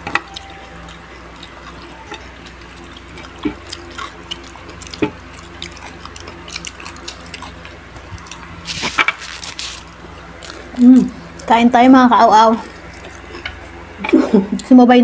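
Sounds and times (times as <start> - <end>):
wet chewing and smacking: 0.0 - 11.7, 12.6 - 14.7
low steady hum: 0.0 - 15.0.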